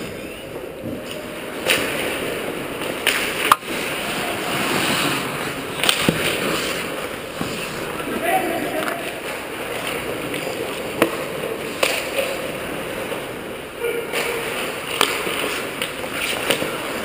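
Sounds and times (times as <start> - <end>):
hockey sticks and puck clacking: 0.0 - 3.9, 4.5 - 8.2, 8.8 - 12.6, 14.1 - 17.0
skates scraping on ice: 0.0 - 13.3, 14.1 - 17.0.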